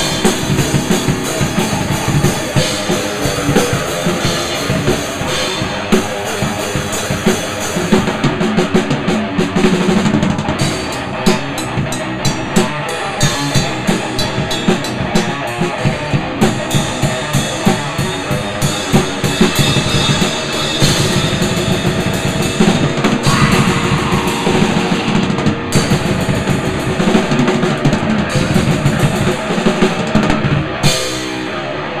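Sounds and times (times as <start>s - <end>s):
fast rock drum beat: 0.0s - 31.6s.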